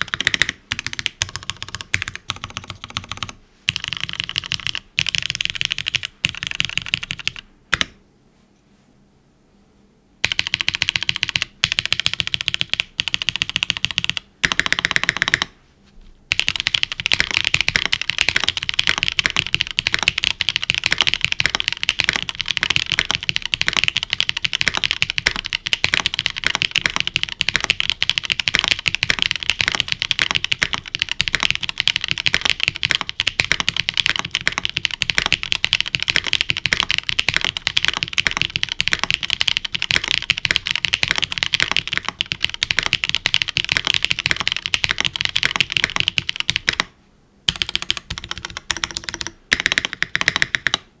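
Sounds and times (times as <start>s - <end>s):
mechanical keyboard typing: 0.0s - 8.0s, 10.2s - 15.6s, 16.3s - 46.9s, 47.5s - 50.9s.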